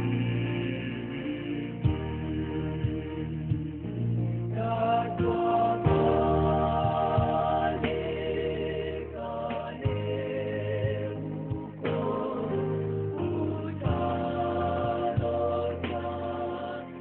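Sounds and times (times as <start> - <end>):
bass with steady beat: 0.0 - 17.0
choir singing gospel: 0.0 - 17.0.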